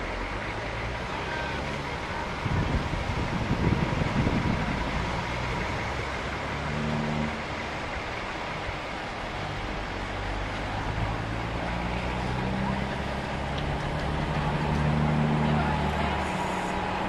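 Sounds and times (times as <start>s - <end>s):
cars moving: 0.0s - 17.0s
diesel truck engines running: 0.0s - 17.0s.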